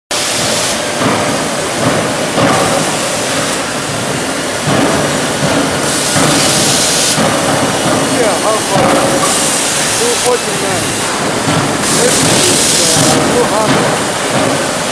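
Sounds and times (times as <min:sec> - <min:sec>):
forging machinery running: 0:00.1 - 0:14.9.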